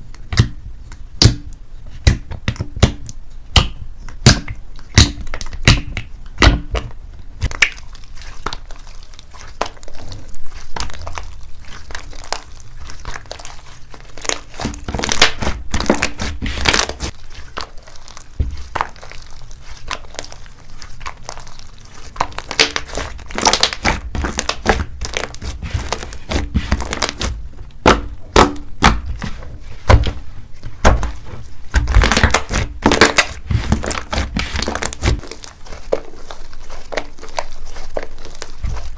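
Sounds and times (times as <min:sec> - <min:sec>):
slime crackling and popping: 0:00.0 - 0:38.9.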